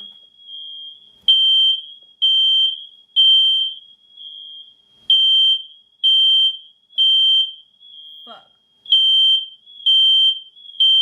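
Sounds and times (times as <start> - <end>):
faint alarm tone: 0.0 - 11.0
fire alarm beeps: 0.0 - 11.0.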